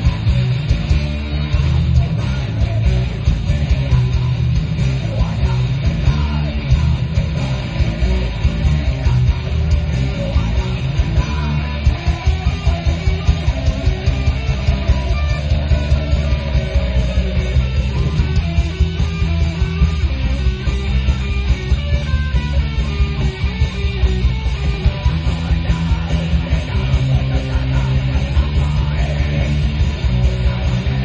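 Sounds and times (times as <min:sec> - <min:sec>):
rock music: 0:00.0 - 0:31.0.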